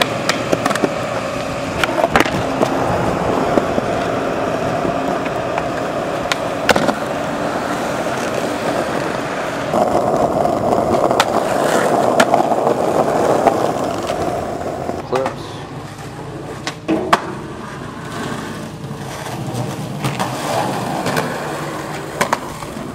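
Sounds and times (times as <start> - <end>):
skateboard clacks: 0.0 - 22.9
skateboard wheels rolling on pavement: 0.0 - 22.9.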